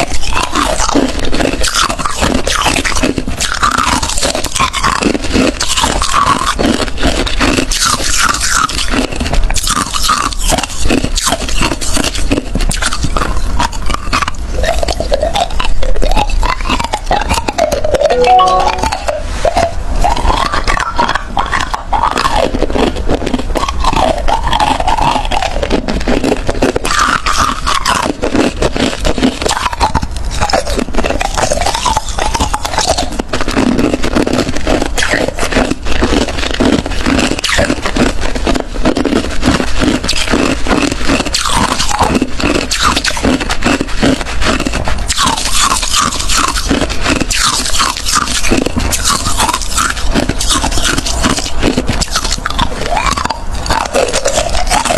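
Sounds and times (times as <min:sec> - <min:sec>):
ice being chewed crunchily: 0:00.0 - 0:54.9.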